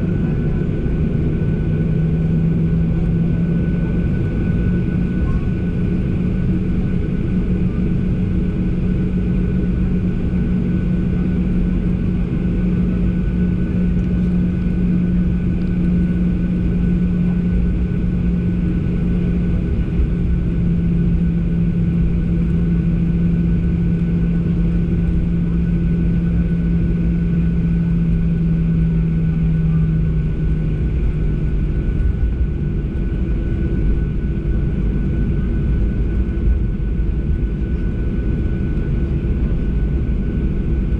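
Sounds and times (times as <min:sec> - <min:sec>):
droning hum: 0:00.0 - 0:40.9
jet engines rumbling in cabin: 0:00.0 - 0:40.9.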